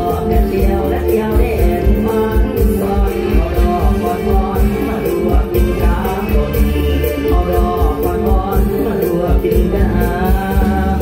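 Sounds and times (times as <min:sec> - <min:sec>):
live band music over loudspeakers: 0:00.0 - 0:11.0.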